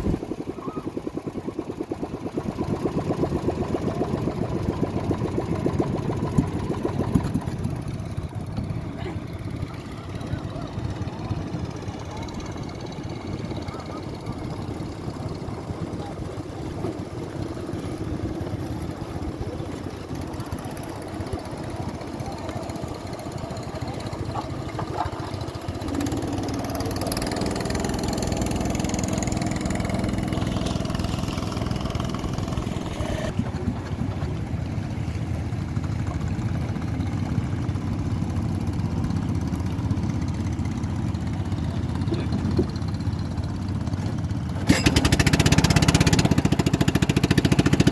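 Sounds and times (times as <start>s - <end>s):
motorboat engine rumbling: 0.0s - 47.9s.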